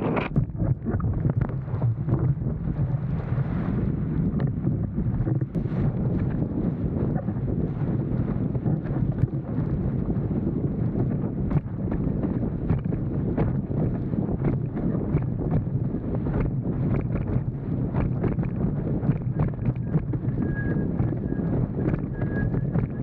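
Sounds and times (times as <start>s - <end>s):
board slapping water: 0.0s - 23.0s
wind buffeting microphone: 0.0s - 23.0s.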